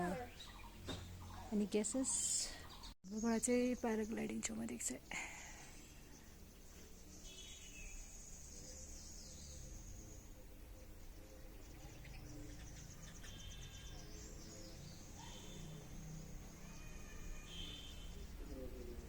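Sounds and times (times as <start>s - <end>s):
bird chirps: 0.0s - 4.6s, 5.8s - 19.0s.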